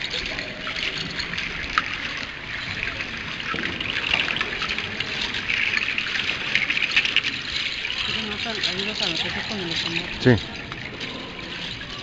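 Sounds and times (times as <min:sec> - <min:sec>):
seed-shell rattles shaking: 0:00.0 - 0:12.0.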